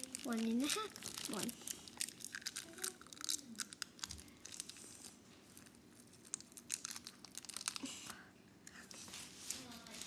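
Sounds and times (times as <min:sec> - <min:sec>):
crinkling and crackling: 0:00.0 - 0:10.0.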